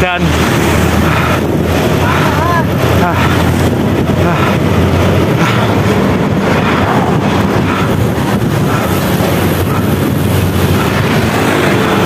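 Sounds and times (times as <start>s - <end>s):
road traffic rumble: 0.0s - 12.0s
wind rushing over microphone: 0.0s - 12.0s.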